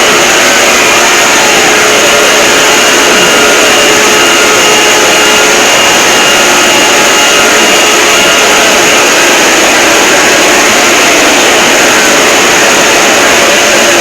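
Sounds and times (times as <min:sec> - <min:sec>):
harsh distorted alarm noise: 0:00.0 - 0:14.0.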